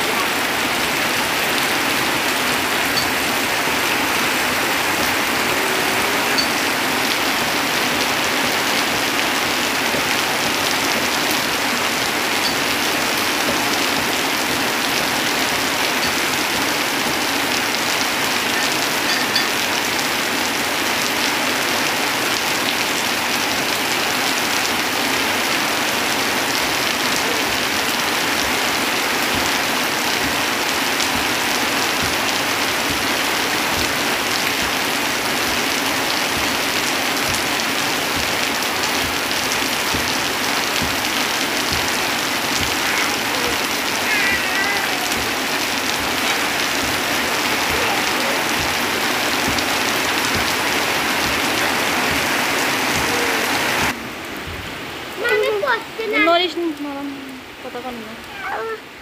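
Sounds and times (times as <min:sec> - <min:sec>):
water pouring off roof edge: 0:00.0 - 0:54.0
heavy rain on a tin roof: 0:00.0 - 0:59.0
rain on leafy trees: 0:00.0 - 0:59.0.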